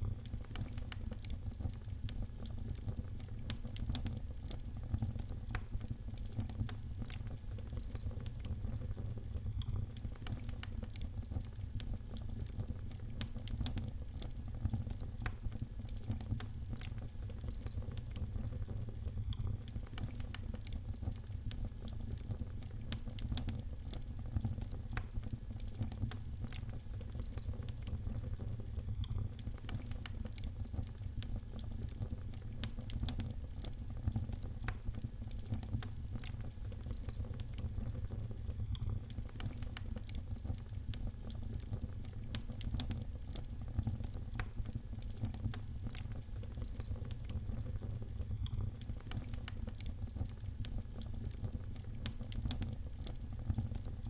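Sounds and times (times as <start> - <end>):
fire crackling in a fireplace: 0.0 - 54.0.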